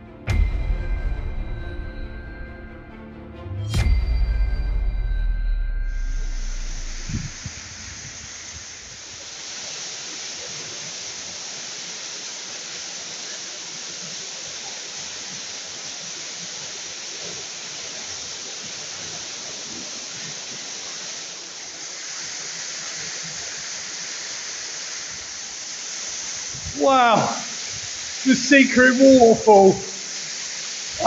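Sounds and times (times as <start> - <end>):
waterfall crashing onto pebbles: 5.9 - 31.0.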